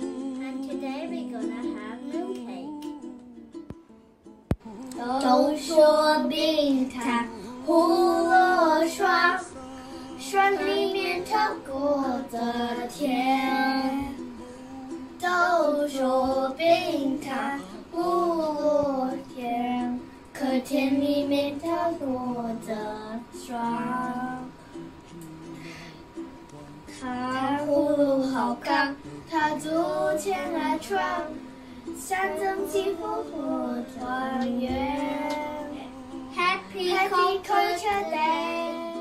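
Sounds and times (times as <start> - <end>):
girl singing: 0.0 - 3.7, 4.6 - 24.6, 26.8 - 39.0.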